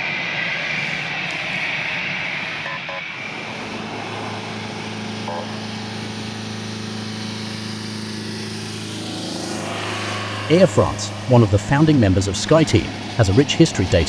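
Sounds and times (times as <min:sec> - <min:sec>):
jet engines of taxiing airliner: 0:00.0 - 0:14.0.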